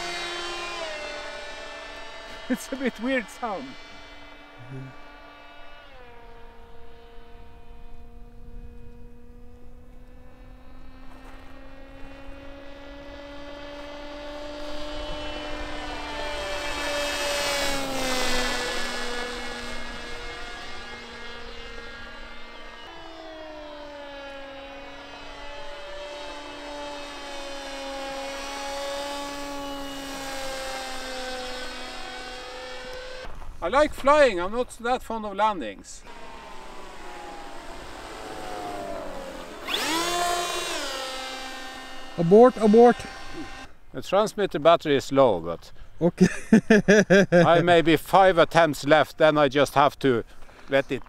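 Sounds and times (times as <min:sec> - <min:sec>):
rc plane propeller drone: 0:00.0 - 0:34.1, 0:36.0 - 0:43.8.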